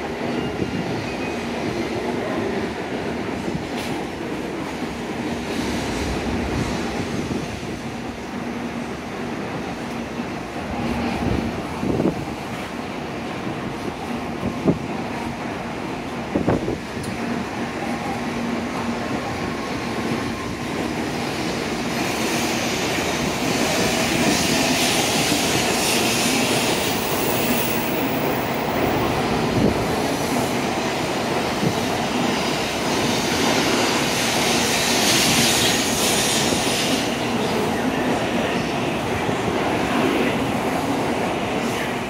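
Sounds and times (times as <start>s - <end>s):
train rushing past platform: 0.0s - 42.0s.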